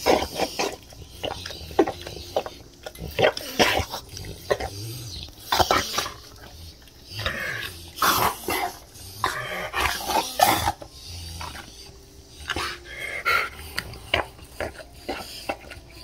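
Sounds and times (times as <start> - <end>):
dog eating and licking: 0.0 - 16.0.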